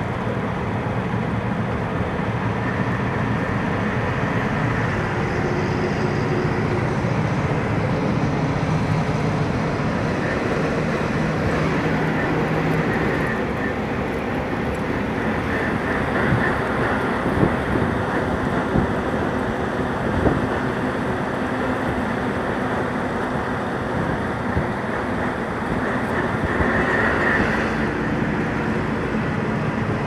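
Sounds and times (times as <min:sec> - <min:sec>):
truck engine and road noise: 0:00.0 - 0:30.0.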